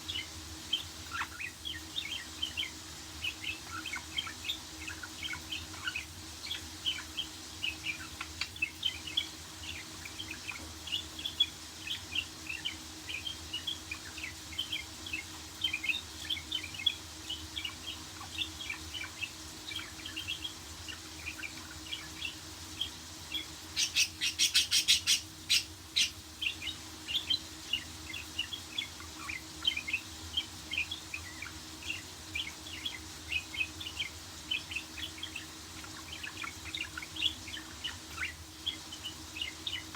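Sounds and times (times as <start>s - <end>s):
faint steady hum: 0.0s - 39.9s
budgerigars chirping: 0.1s - 39.9s.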